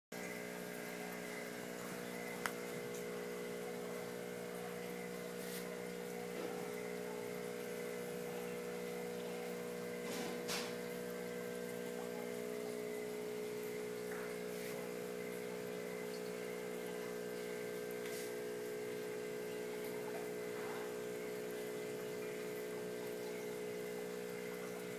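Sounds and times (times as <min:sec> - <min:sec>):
aquarium air pump humming: 0:00.1 - 0:24.9.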